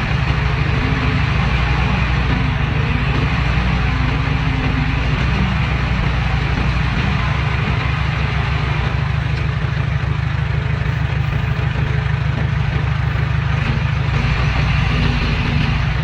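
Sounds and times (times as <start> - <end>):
diesel engine throbbing: 0.0 - 16.0.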